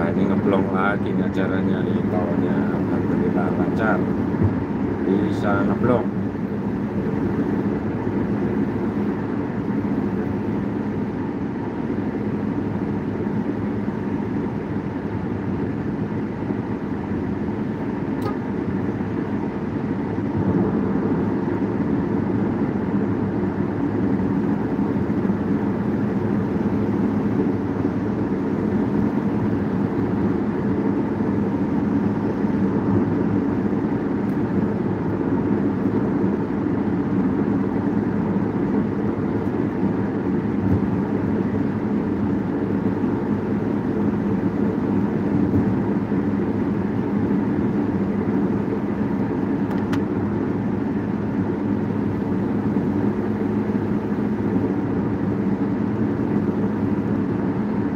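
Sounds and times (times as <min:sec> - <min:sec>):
low engine hum: 0:00.0 - 0:57.9
road noise inside car: 0:00.0 - 0:57.9.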